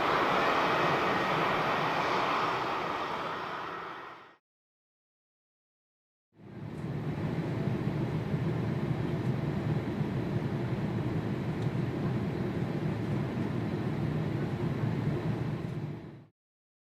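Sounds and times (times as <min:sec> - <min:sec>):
jet engines rumbling: 0:00.0 - 0:04.4, 0:06.4 - 0:16.3.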